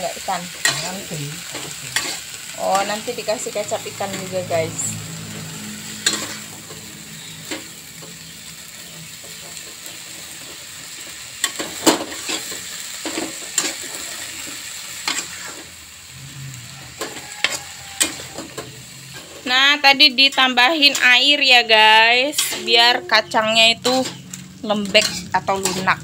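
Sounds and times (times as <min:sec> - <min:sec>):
beans sizzling in a wok: 0:00.0 - 0:26.0
spatula scraping wok: 0:00.0 - 0:26.0.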